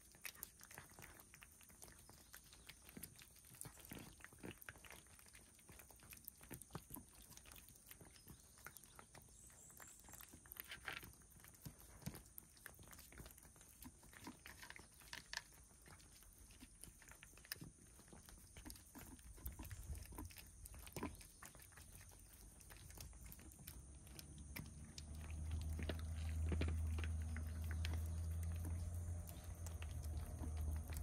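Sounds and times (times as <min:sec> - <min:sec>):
cats crunching dry food: 0:00.0 - 0:31.0.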